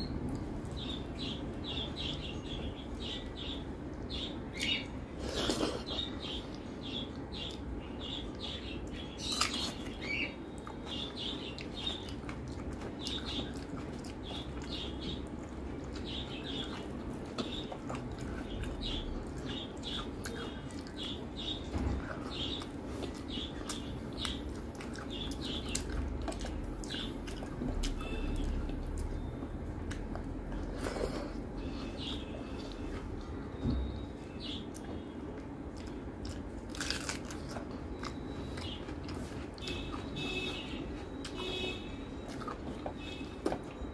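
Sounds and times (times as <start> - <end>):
low steady hum: 0.0 - 43.9
person chewing food: 4.0 - 7.7, 8.3 - 34.0, 34.7 - 43.9.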